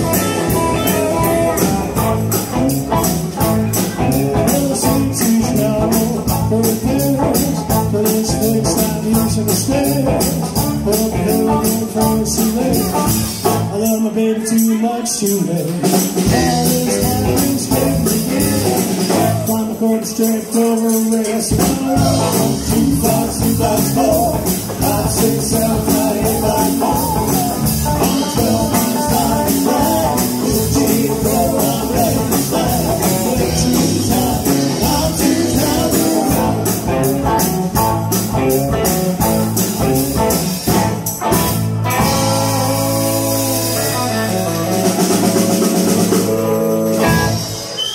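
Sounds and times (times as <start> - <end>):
rock band playing: 0.0 - 47.9
person singing: 0.1 - 41.0, 41.9 - 47.7.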